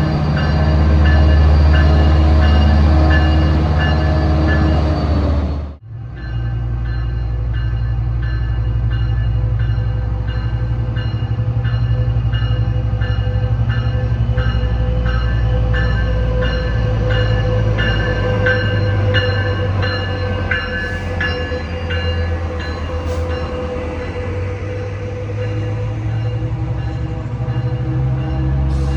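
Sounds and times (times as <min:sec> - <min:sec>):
railroad bell ringing: 0:00.0 - 0:05.2, 0:06.0 - 0:28.9
train rumble: 0:00.0 - 0:28.9.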